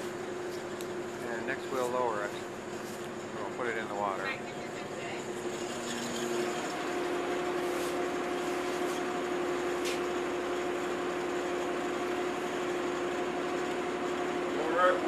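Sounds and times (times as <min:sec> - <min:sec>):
ship machinery hum: 0:00.0 - 0:15.0.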